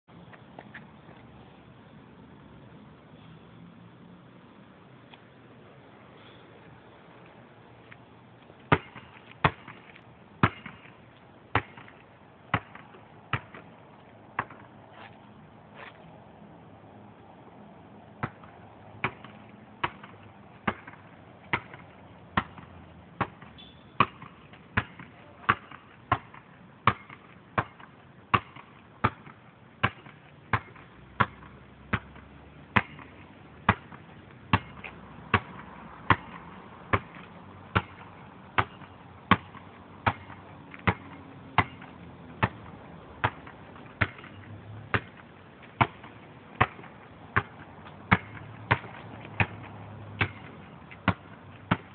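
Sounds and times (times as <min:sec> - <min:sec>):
basketball bouncing on asphalt: 0:07.3 - 0:16.1, 0:17.6 - 0:51.9.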